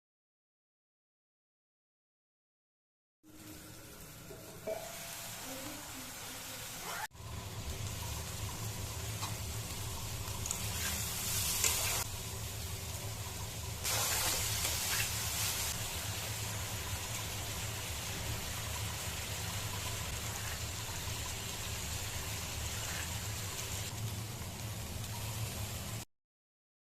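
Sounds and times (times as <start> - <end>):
rice sizzling in a pan: 3.3 - 26.1.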